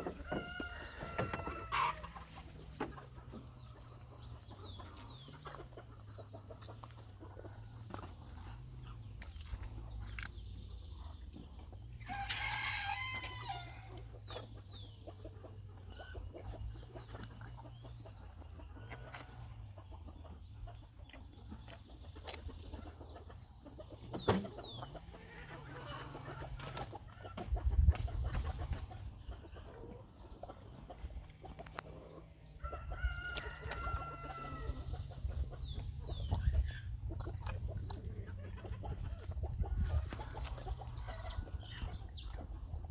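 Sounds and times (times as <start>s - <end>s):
chickens clucking: 0.0s - 42.9s
small birds chirping: 0.0s - 42.9s.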